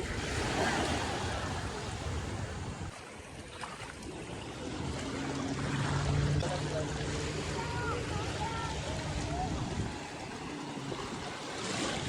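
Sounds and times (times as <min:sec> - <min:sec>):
sea water rushing: 0:00.0 - 0:12.0
wind: 0:00.0 - 0:12.0.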